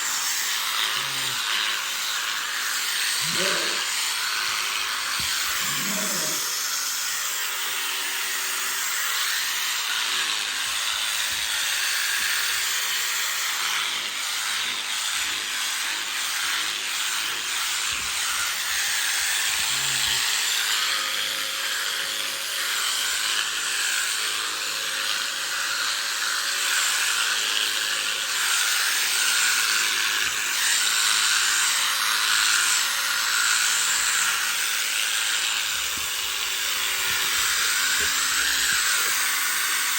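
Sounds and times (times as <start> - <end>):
electric sheep shears buzzing: 0.0 - 39.9.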